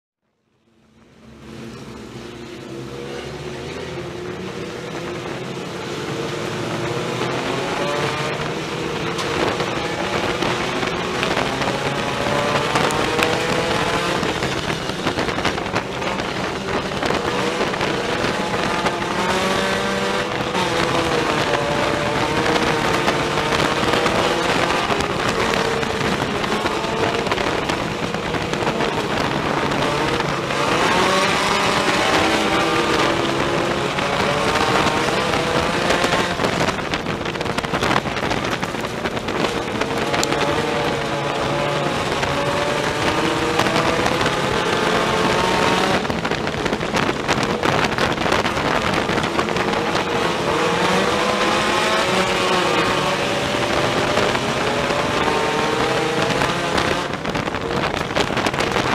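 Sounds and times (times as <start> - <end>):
race car engine revving: 1.1 - 58.9.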